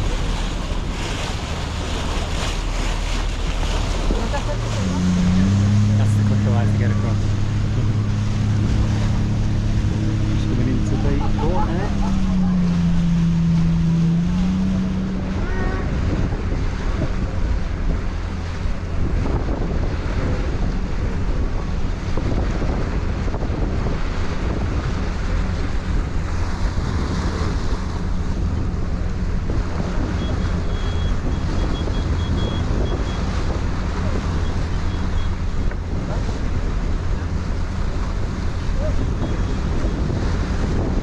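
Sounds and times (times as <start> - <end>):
ferry engine drone: 0.0 - 41.0
water rushing along hull: 0.0 - 41.0
wind buffeting microphone: 0.0 - 41.0.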